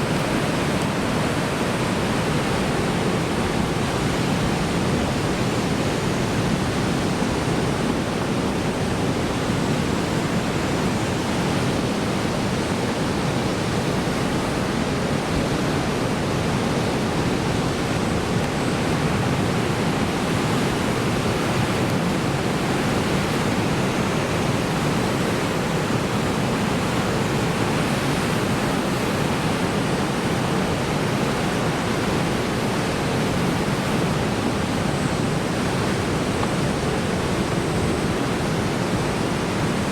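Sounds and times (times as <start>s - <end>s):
heavy surf breaking on shore: 0.0s - 39.9s.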